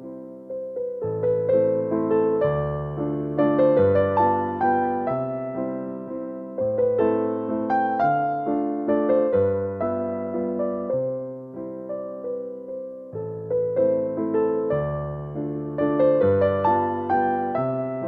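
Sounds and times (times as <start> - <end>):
slow soft piano music: 0.0 - 18.0.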